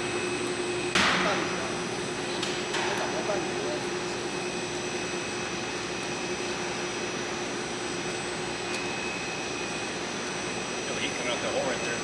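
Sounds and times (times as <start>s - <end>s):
high steady whines: 0.0s - 12.0s.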